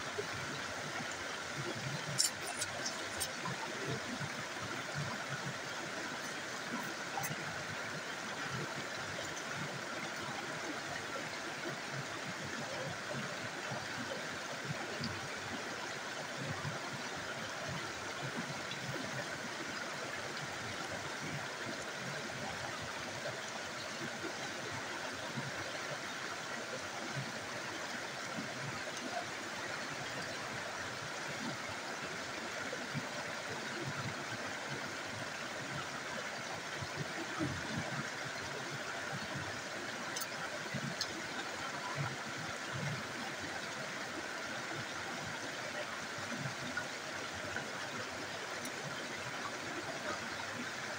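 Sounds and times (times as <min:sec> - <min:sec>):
stream water over rocks: 0:00.0 - 0:50.9.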